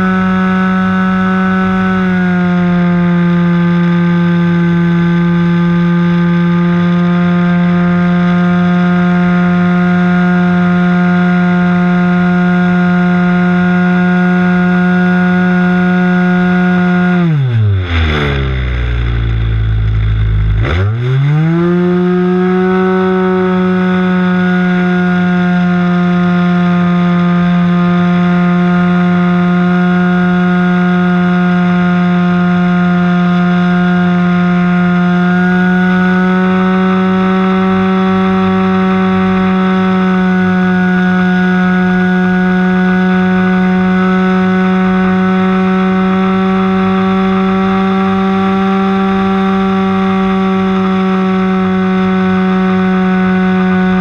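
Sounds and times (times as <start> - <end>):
model airplane engine: 0.0 - 54.0.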